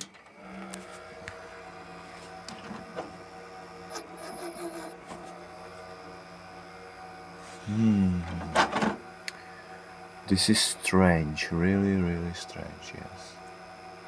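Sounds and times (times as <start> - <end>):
computer fans humming: 0.3 - 14.0.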